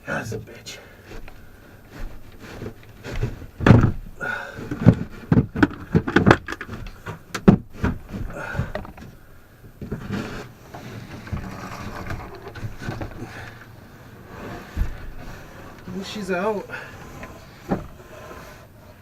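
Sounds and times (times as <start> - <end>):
heavy thuds and knocks: 1.0 - 18.6.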